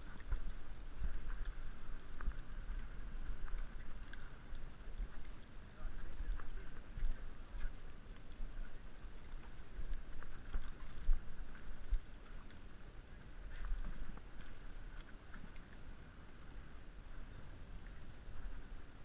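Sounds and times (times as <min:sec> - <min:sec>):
water against boat hull: 0:00.0 - 0:19.0
wind rumbling on microphone: 0:00.0 - 0:19.0.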